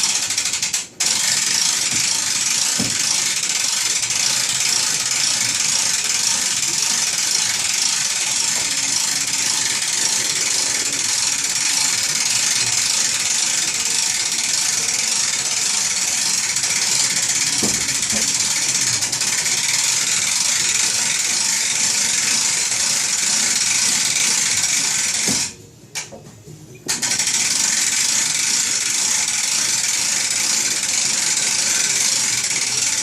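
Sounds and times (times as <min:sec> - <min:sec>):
rapid mechanical rattling: 0:00.0 - 0:26.1, 0:26.9 - 0:33.0.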